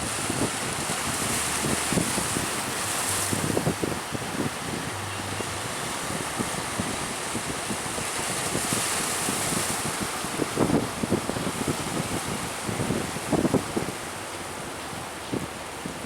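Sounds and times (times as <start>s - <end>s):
sea waves rushing: 0.0s - 16.0s
wind buffeting microphone: 0.0s - 16.0s.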